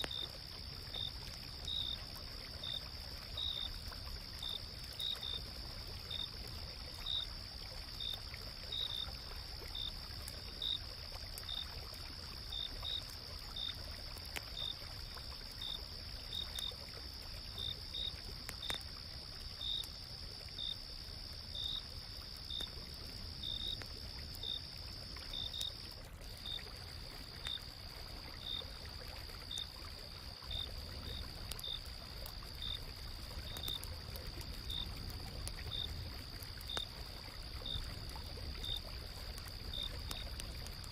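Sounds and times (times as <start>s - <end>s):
campfire crackling: 0.0s - 40.9s
cricket chirping: 0.0s - 40.9s.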